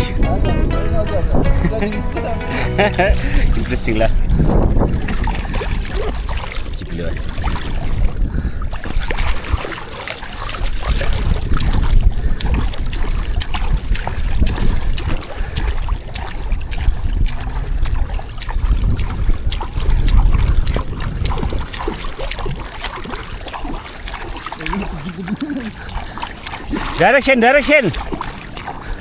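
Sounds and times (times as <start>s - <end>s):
wind on microphone: 0.0s - 27.0s
paddle splashing water: 2.6s - 29.0s.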